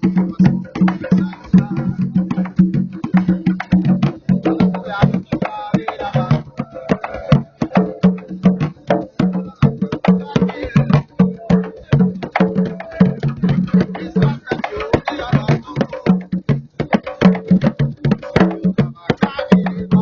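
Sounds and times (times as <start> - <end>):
hand drums played with hand and stick: 0.0 - 20.0.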